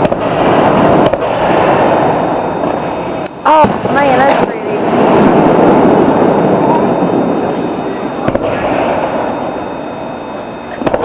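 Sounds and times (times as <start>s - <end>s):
sharp firework bang: 0.0s - 9.6s, 10.7s - 11.0s
dense fireworks crackle: 0.0s - 11.0s.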